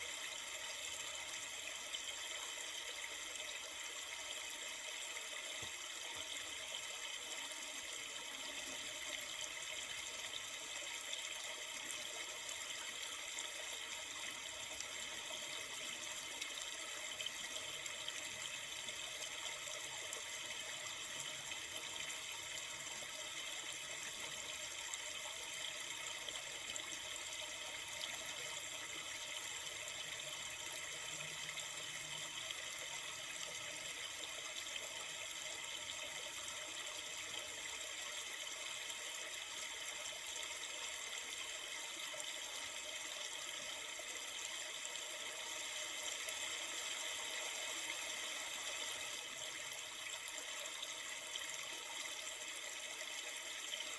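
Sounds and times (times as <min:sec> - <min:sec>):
flowing river water: 0:00.0 - 0:53.9.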